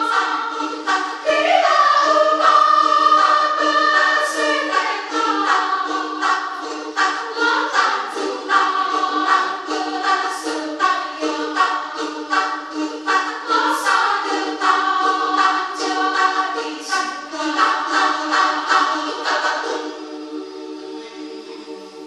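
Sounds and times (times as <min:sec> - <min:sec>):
women's choir singing: 0:00.0 - 0:22.0.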